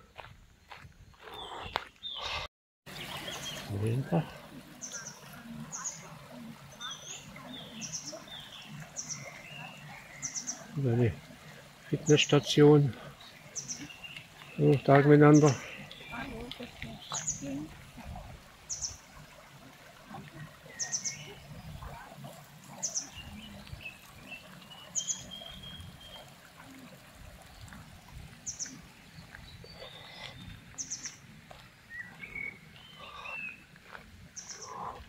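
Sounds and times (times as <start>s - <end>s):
birds softer song: 1.1s - 19.3s, 20.2s - 35.0s.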